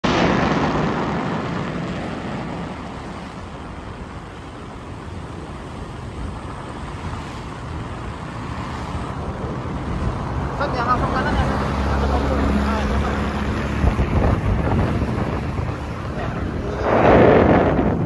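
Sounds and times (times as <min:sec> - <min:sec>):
car tyres on wet road: 0:00.0 - 0:18.0.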